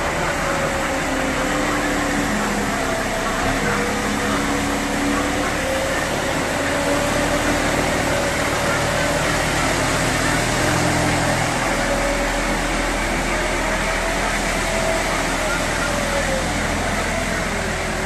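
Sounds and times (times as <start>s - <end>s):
straw spreader machine running: 0.0s - 18.0s.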